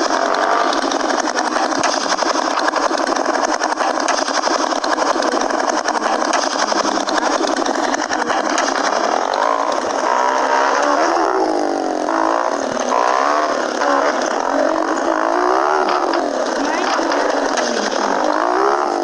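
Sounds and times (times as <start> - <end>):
small motorcycle engine revving: 0.0 - 19.0
steady rushing noise: 0.0 - 19.0.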